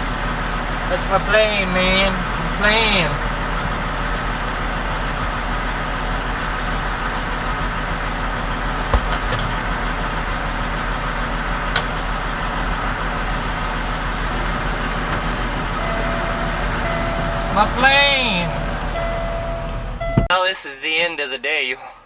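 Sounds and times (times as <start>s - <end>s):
diesel truck engine idling: 0.0s - 20.3s.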